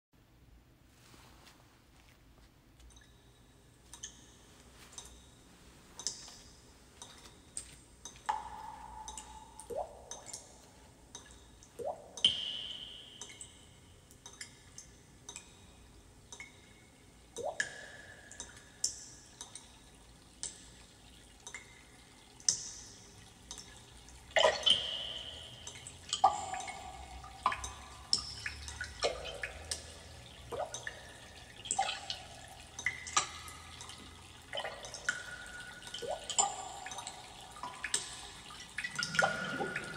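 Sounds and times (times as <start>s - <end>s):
water drops plinking: 2.9s - 5.4s, 6.0s - 39.9s.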